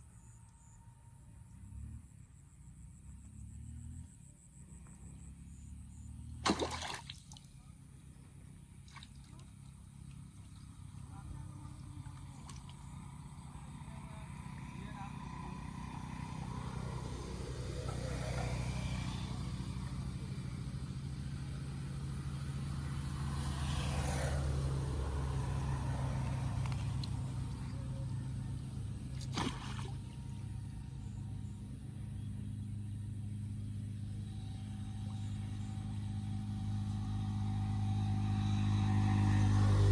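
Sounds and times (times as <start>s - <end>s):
engine humming: 1.1s - 39.9s.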